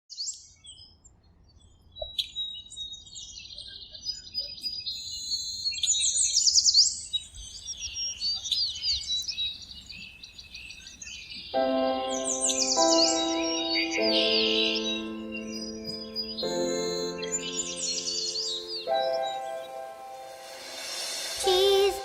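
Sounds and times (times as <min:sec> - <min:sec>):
birds chirping and trilling: 0:00.1 - 0:22.0.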